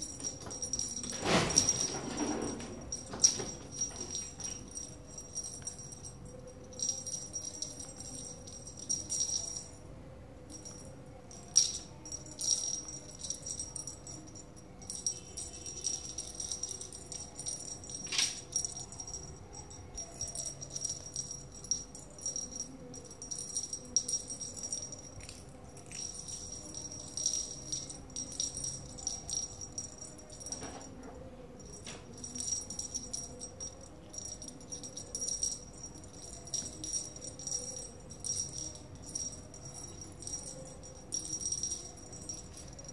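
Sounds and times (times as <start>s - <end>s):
small bell jingling: 0.0s - 9.8s, 10.5s - 42.9s.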